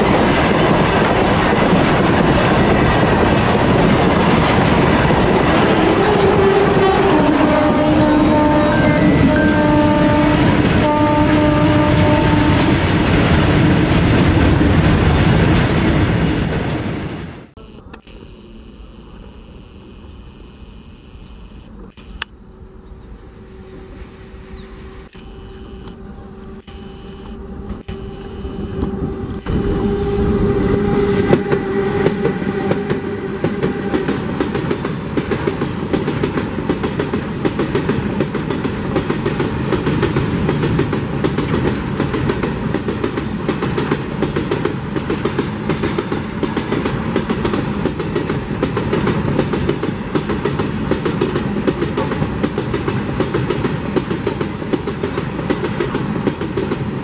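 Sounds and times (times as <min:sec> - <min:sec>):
electric locomotive hum: 0:00.0 - 0:57.0.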